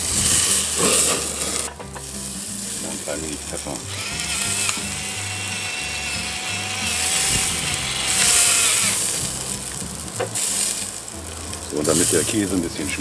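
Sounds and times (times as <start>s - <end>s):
background music: 0.0s - 13.0s
food sizzling on a grill: 0.0s - 13.0s.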